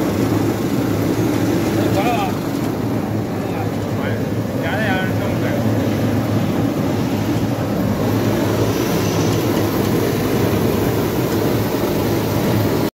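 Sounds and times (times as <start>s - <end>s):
washing machine mechanical hum: 0.0s - 12.9s.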